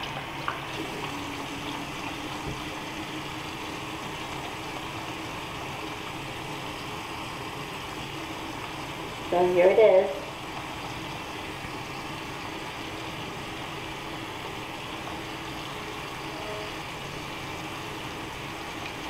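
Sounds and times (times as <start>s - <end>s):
water running from a tap: 0.0s - 19.0s.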